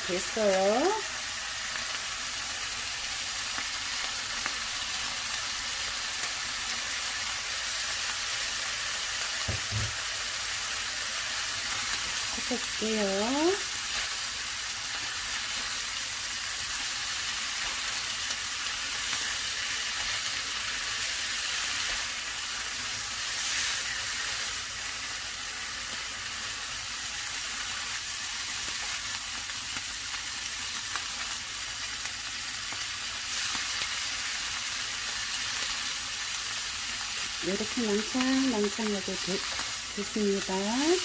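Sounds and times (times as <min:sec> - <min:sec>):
fern sizzling in a pan: 0:00.0 - 0:41.0.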